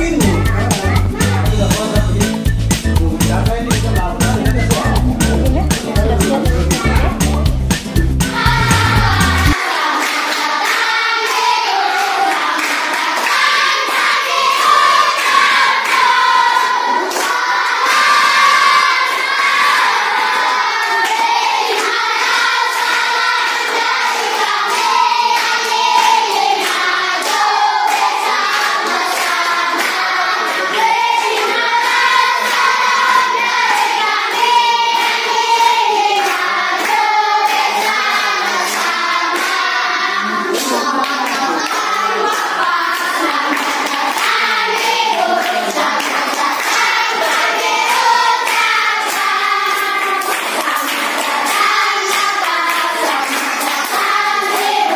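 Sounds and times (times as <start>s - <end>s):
hand clapping: 0.0s - 39.6s, 40.5s - 54.9s
children singing together: 8.2s - 54.9s.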